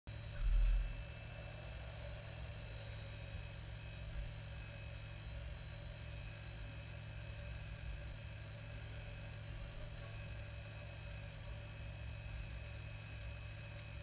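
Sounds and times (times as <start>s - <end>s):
model excavator motor humming: 0.1s - 14.0s
thin constant whine: 0.1s - 14.0s.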